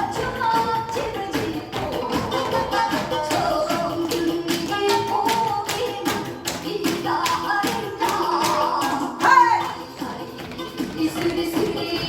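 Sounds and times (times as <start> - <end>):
upbeat music with percussive beat: 0.0 - 12.0.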